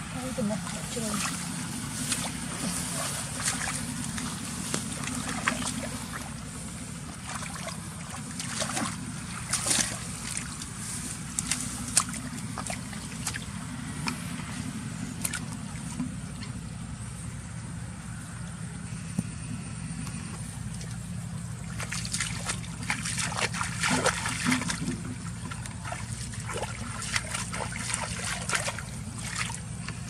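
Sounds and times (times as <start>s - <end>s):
water sloshing and splashing: 0.0s - 17.3s, 20.4s - 30.0s
steady low hum: 0.0s - 30.0s.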